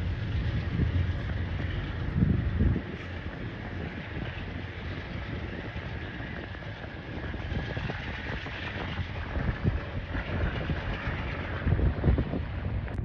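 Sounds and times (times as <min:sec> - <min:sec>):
train rumbling on tracks: 0:00.0 - 0:13.0.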